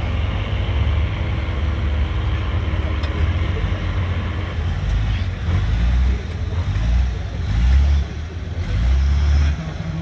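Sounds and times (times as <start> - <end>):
diesel truck engine revving: 0.0 - 10.0.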